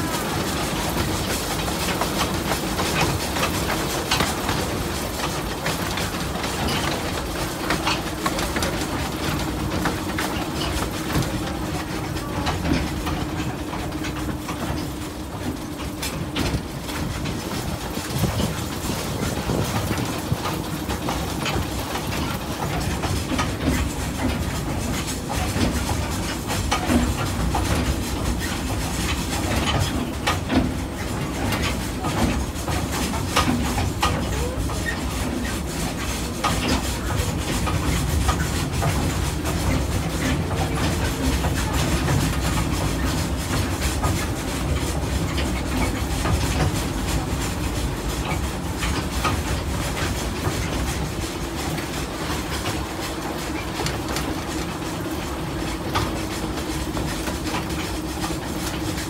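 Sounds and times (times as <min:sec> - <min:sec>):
train rumbling on track: 0:00.0 - 0:59.0
wheels clicking on rails: 0:00.0 - 0:59.0.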